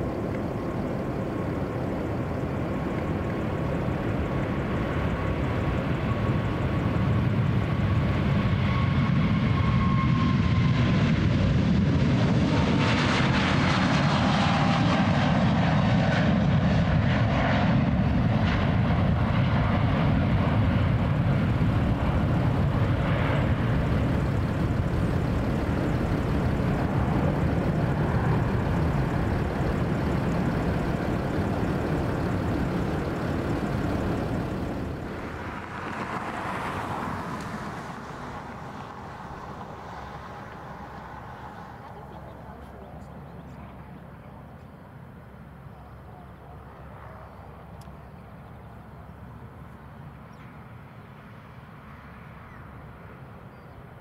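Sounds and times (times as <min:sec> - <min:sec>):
jet engines passing by: 0:00.0 - 0:54.0.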